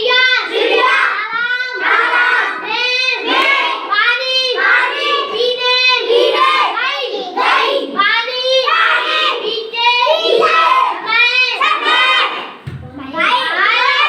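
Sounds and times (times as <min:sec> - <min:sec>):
child chanting sing-song: 0:00.0 - 0:14.0.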